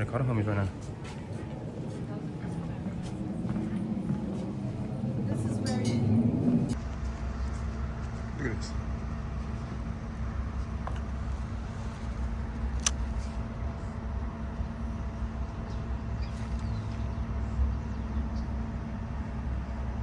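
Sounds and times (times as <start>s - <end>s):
motor running with low rumble: 3.4s - 20.0s.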